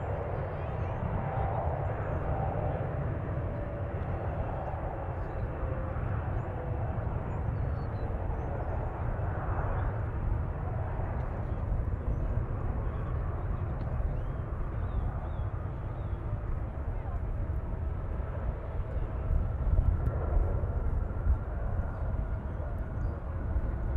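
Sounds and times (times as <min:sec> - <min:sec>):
faint engine whine: 0:00.0 - 0:23.9
jet engines rumbling: 0:00.0 - 0:23.9.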